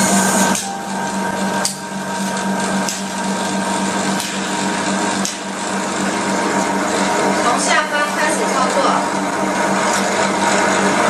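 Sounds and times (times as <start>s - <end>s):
suction pump humming and hissing: 0.0s - 11.0s.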